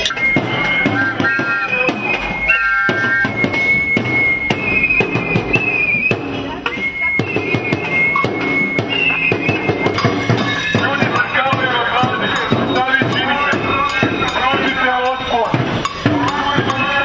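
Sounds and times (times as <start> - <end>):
shrill steady whistling: 0.0 - 15.9
banging and drumming: 0.0 - 17.0.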